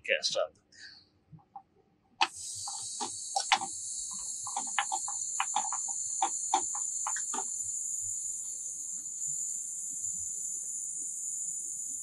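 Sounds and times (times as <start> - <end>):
refrigerant gas hissing: 2.2 - 12.0.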